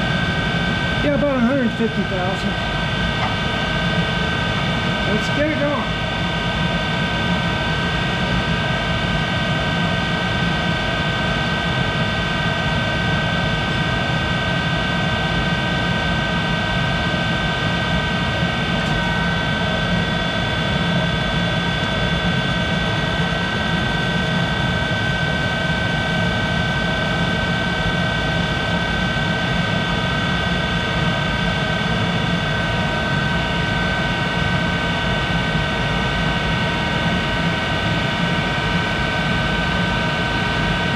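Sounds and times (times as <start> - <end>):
lathe whining and rumbling: 0.0 - 40.9.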